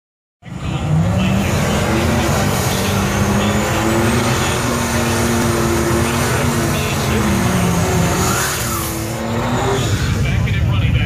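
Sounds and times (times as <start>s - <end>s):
turbocharged engine running hard: 0.4s - 11.0s.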